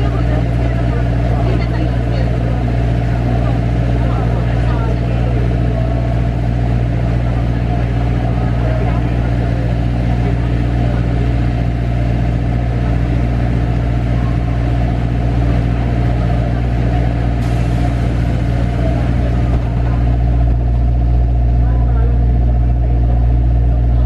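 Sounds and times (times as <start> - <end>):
engine idling hum: 0.0 - 24.0.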